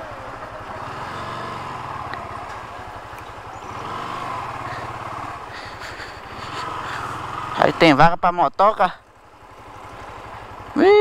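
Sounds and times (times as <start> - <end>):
motorcycle engine idling low: 0.0 - 11.0.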